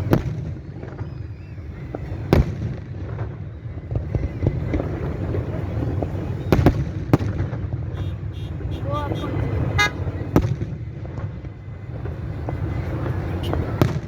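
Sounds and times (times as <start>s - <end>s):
small firework pops: 0.0s - 8.0s, 10.3s - 14.0s
loud firework bangs: 0.0s - 14.0s.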